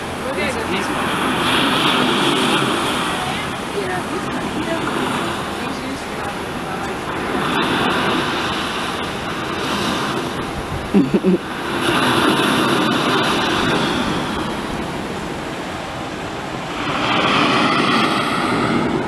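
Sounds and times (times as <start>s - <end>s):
rushing outdoor background noise: 0.0s - 19.0s.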